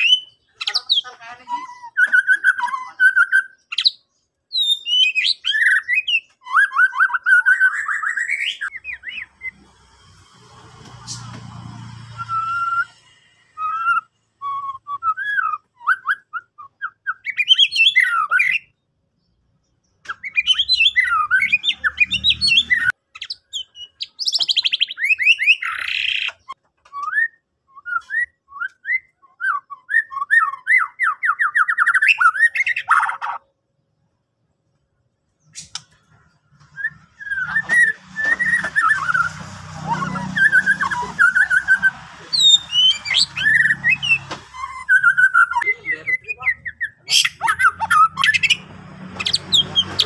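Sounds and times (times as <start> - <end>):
bird singing whistled phrases: 0.0 - 9.6, 12.0 - 18.8, 20.0 - 33.2, 36.7 - 48.6.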